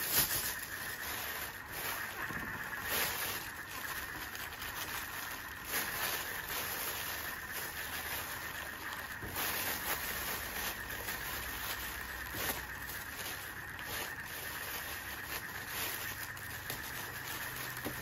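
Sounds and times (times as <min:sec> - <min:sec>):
plastic gloves crinkling: 0:00.0 - 0:18.0.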